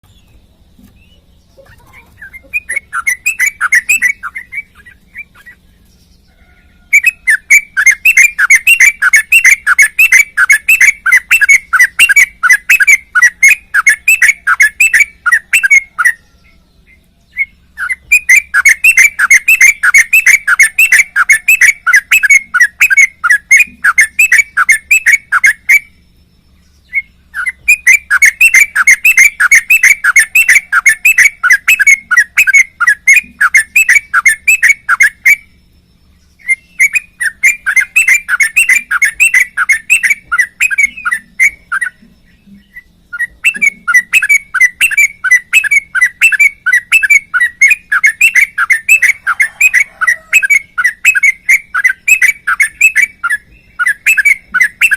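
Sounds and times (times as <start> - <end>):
bulbul whistled song: 0.0 - 54.9.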